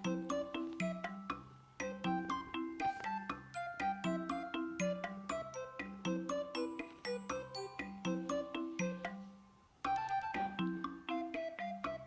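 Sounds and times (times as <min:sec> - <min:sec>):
bright bouncy background music: 0:00.0 - 0:12.0.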